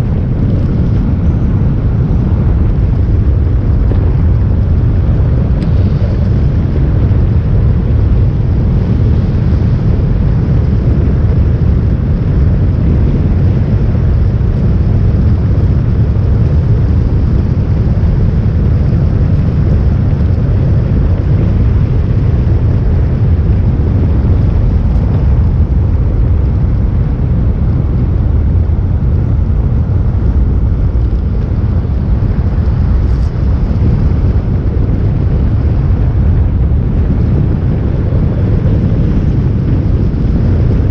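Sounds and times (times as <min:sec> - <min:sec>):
motorcycle engine drone: 0:00.0 - 0:40.9
wind rush on microphone: 0:00.0 - 0:40.9.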